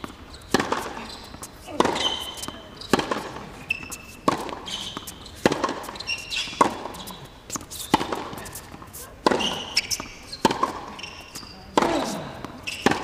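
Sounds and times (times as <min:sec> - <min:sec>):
ball bouncing on court: 0:00.0 - 0:13.0
racquet striking ball: 0:00.0 - 0:13.0
shoes squeaking on court: 0:00.0 - 0:13.0.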